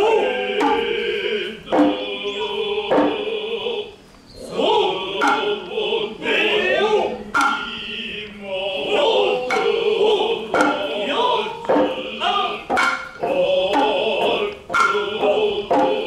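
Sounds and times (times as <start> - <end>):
hand drum strokes: 0.0 - 3.8, 4.9 - 8.2, 8.8 - 16.0
chanting in long phrases: 0.0 - 16.0.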